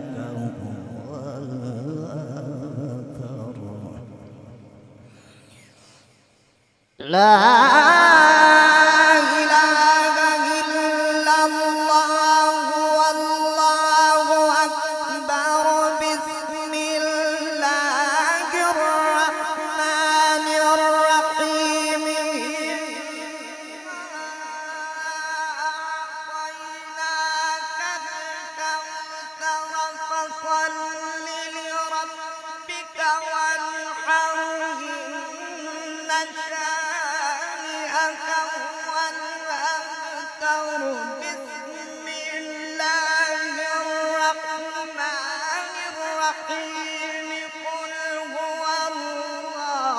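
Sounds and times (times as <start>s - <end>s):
man reciting melodically: 0.0s - 6.0s, 7.0s - 49.9s.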